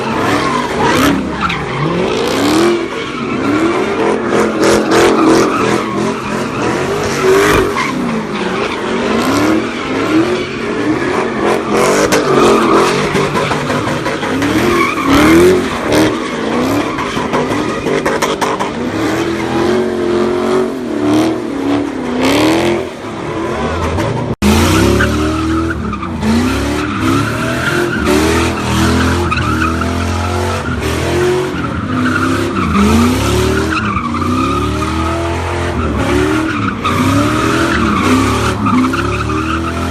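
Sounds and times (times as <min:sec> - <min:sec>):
car engine revving: 0:00.0 - 0:39.9
tires squealing: 0:00.0 - 0:39.9.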